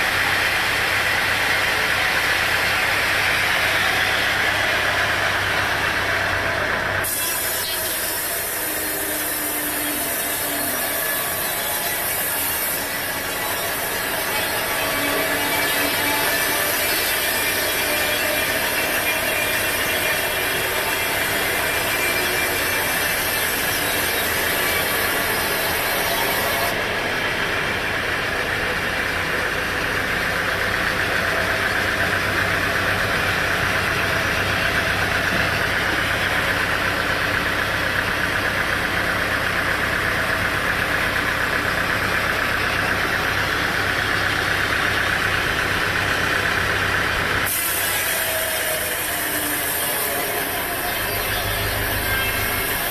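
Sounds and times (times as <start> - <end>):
engine running: 0.0 - 52.9
saw cutting through wood: 0.0 - 52.9.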